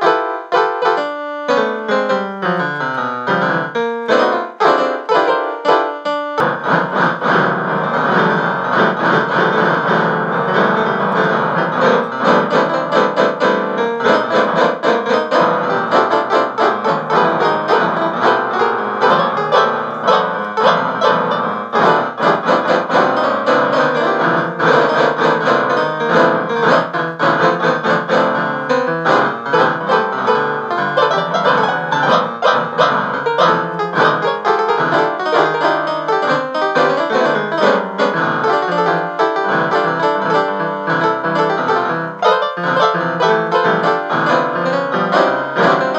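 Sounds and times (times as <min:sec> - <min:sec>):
piano music with quick notes: 0:00.0 - 0:45.9.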